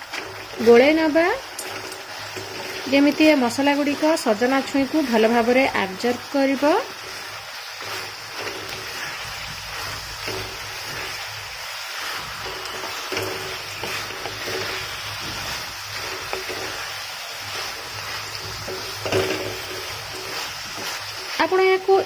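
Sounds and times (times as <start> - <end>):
food frying in oil: 0.0 - 22.0
wooden spatula scraping: 0.0 - 22.0.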